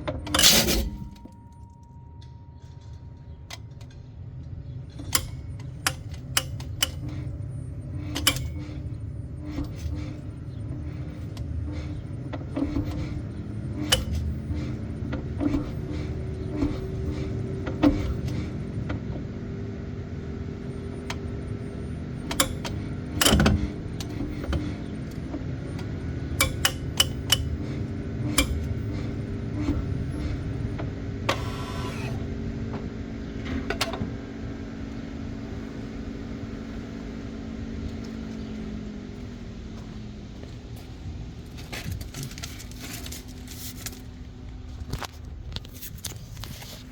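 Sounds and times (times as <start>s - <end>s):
low hum: 0.0s - 26.4s, 27.2s - 46.5s.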